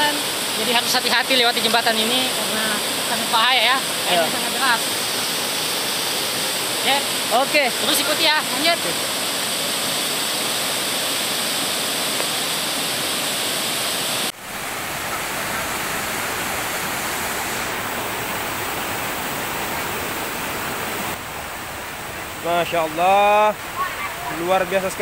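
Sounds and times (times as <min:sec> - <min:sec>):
rocky stream rushing: 0:00.0 - 0:25.0.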